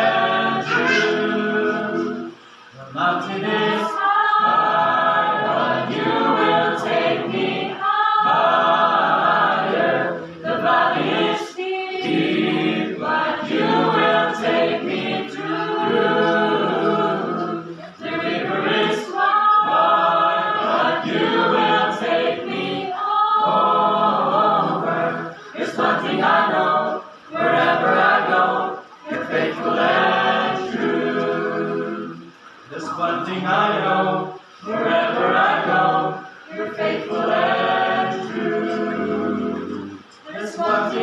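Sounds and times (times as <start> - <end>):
mixed choir singing: 0.0 - 41.0.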